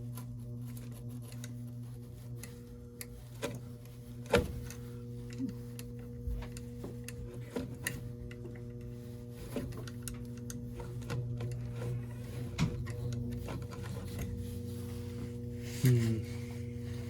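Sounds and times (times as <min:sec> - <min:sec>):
furnace electrical hum: 0:00.0 - 0:17.0.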